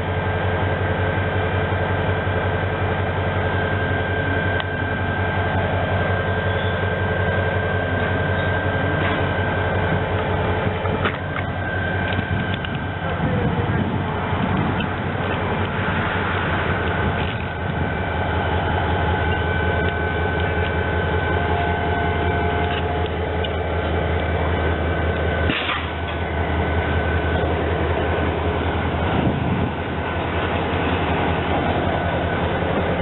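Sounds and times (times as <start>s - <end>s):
train rumbling: 0.0s - 33.0s.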